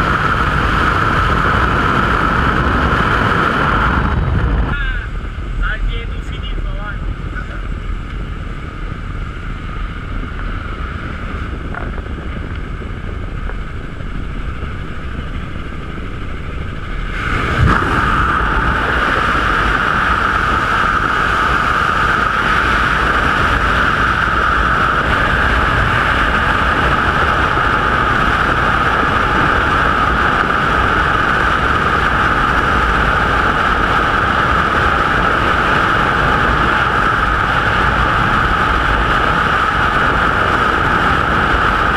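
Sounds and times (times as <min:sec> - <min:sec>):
propeller plane engine drone: 0:00.0 - 0:41.9
wind at plane door: 0:00.0 - 0:41.9
wind rushing over microphone: 0:00.0 - 0:41.9.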